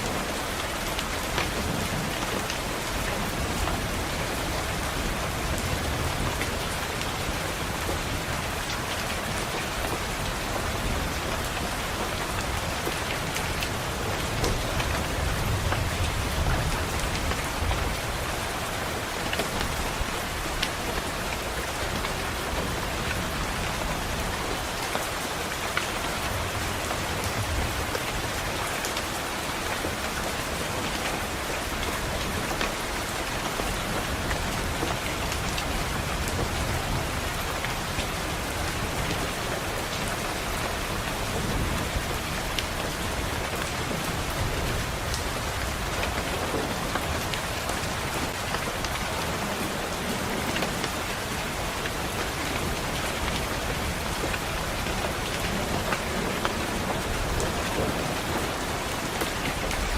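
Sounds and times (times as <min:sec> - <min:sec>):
rain on window glass: 0:00.0 - 0:59.9.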